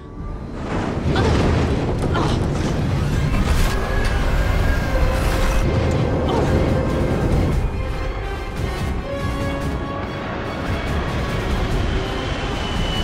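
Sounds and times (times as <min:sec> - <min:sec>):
dramatic score music: 0:00.0 - 0:13.0.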